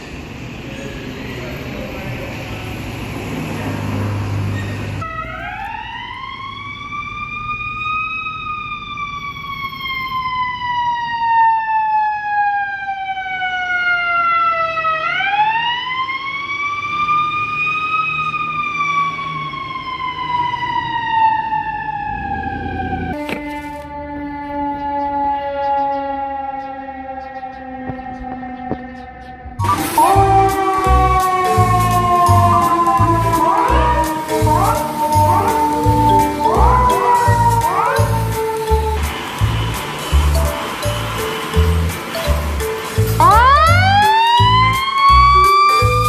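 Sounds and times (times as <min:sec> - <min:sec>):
rumbling traffic: 0:00.0 - 0:23.8, 0:29.5 - 0:46.0
siren wailing: 0:04.9 - 0:28.8, 0:29.6 - 0:46.0.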